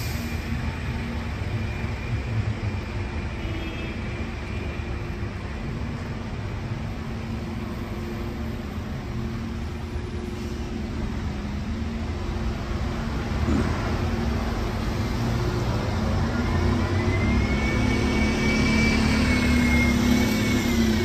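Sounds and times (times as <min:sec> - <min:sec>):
street traffic engine hum: 0:00.0 - 0:21.0.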